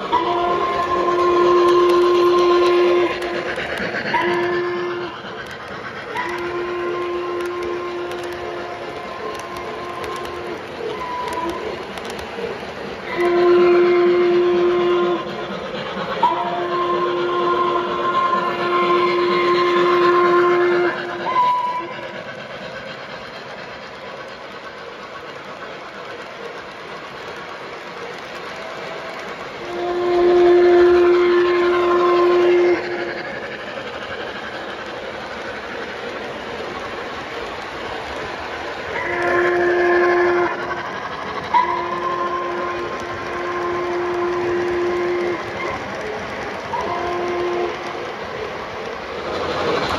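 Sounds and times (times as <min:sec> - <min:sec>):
model train steam whistle: 0:00.0 - 0:05.3, 0:06.1 - 0:23.1, 0:26.6 - 0:48.8
train cars rolling over track: 0:00.0 - 0:49.9.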